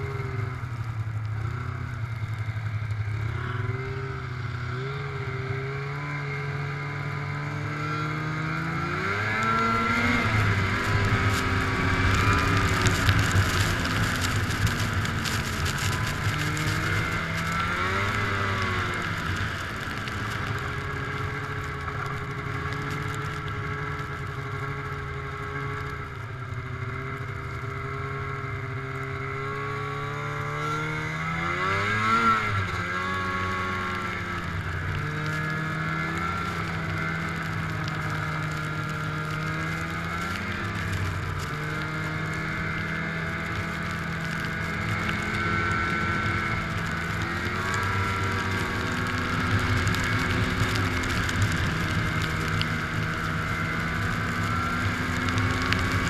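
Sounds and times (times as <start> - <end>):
snowmobile engine revving: 1.4 - 56.0.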